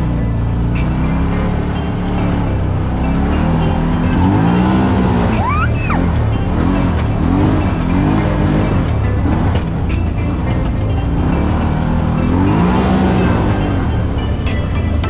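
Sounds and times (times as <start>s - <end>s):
music: 0.0s - 15.0s
utv engine revving: 0.0s - 15.0s.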